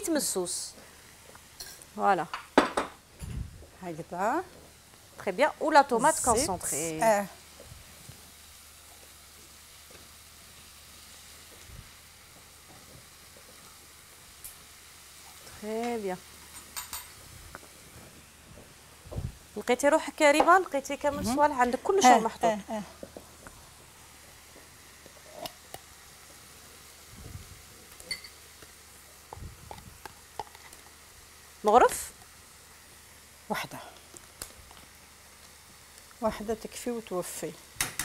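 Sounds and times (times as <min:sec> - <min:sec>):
vegetables sizzling in a pan: 0:00.0 - 0:38.0.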